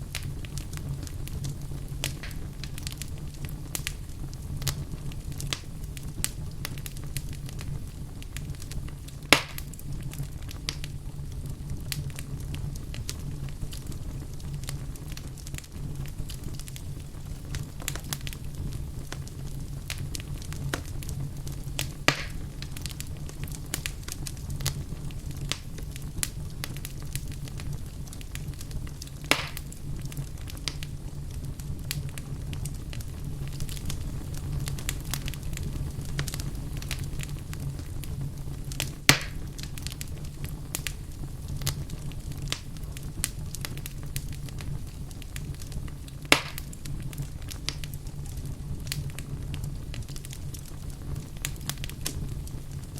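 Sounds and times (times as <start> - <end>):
flames rumbling: 0.0 - 52.9
wood fire crackling: 0.0 - 52.9.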